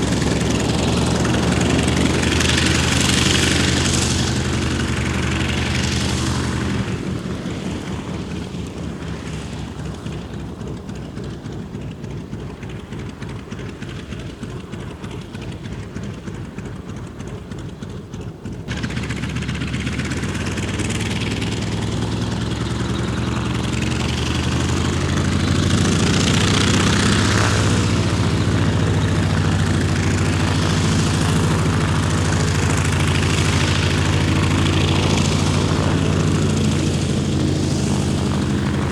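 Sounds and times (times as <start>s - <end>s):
radial engine and propeller running: 0.0s - 38.9s.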